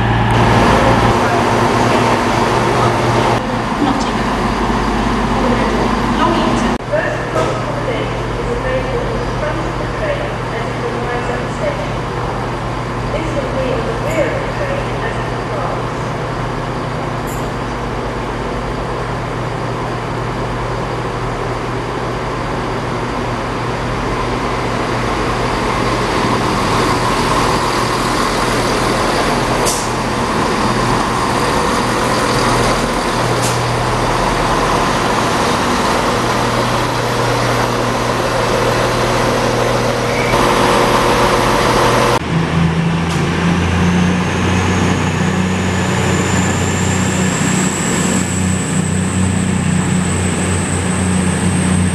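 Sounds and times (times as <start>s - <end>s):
diesel train engines running: 0.0s - 51.9s
diesel train passing with whine: 0.0s - 51.9s.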